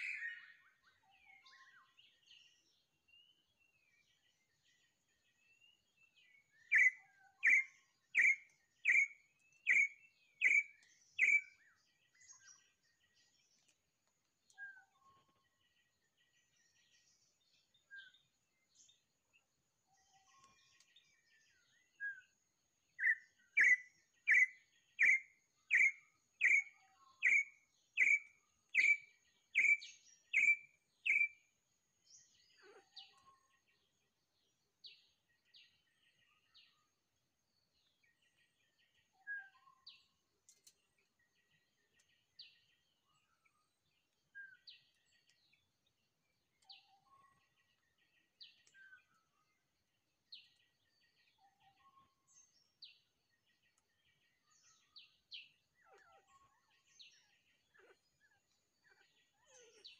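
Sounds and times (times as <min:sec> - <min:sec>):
faint bird chirps: 0:00.0 - 0:59.9.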